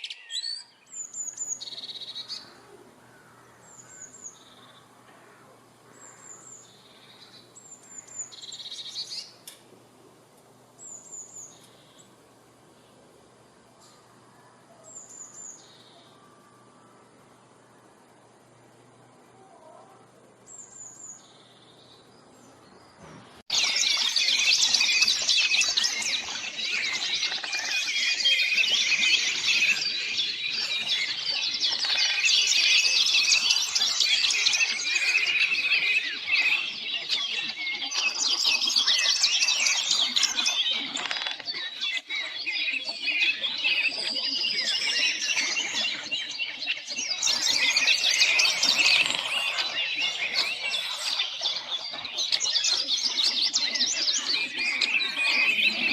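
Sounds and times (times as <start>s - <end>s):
songbirds chirping in chorus: 0.0s - 55.9s.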